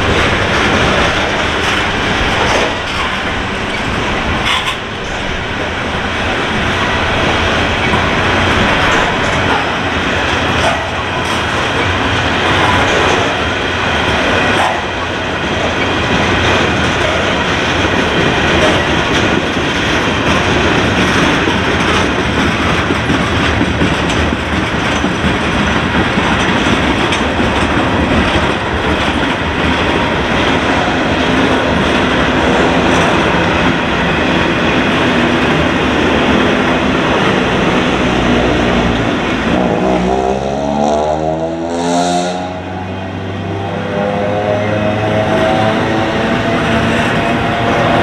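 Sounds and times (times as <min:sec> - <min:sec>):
clickety-clack over rail joints: 0:00.0 - 0:42.8, 0:43.4 - 0:48.0
steel wheels rumbling on rail: 0:00.0 - 0:48.0.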